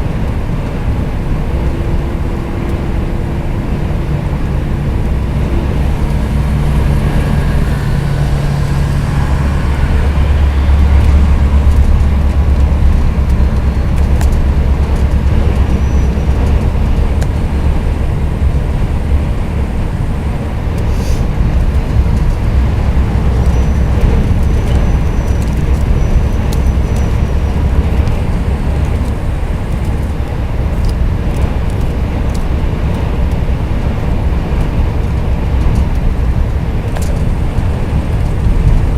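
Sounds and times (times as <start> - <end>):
road noise: 0.0 - 38.9
truck diesel engine drone: 0.0 - 38.9.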